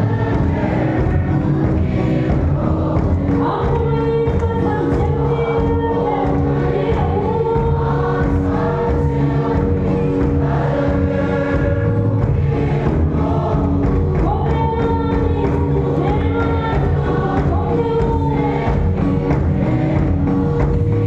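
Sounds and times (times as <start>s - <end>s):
congregation singing a hymn: 0.0s - 4.4s, 6.2s - 14.3s, 15.6s - 21.0s.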